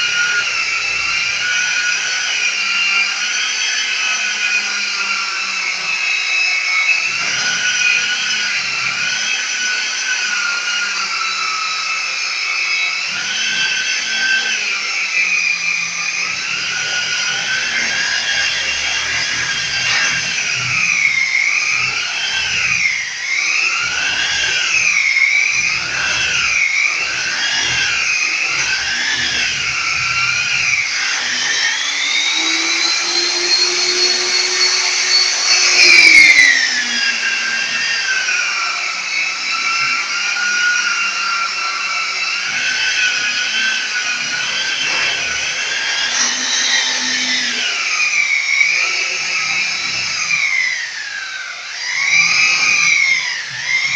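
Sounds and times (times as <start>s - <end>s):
electric sander motor whine: 0.0s - 53.9s
sander scraping wall: 0.0s - 53.9s.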